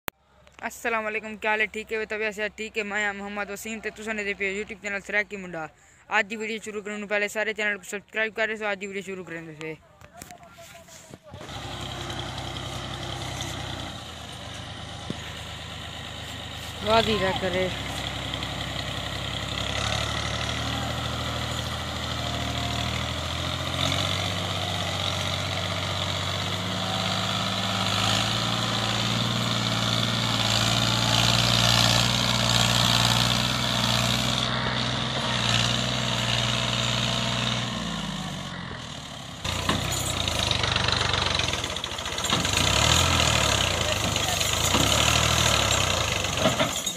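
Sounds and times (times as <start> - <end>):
tractor diesel engine labouring: 0.2 - 7.7, 10.5 - 46.9.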